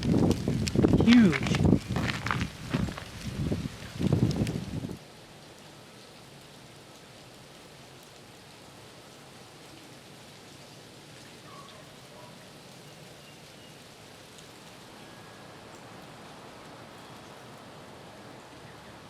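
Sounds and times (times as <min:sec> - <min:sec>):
faint patter of wet snow: 0:00.0 - 0:19.0.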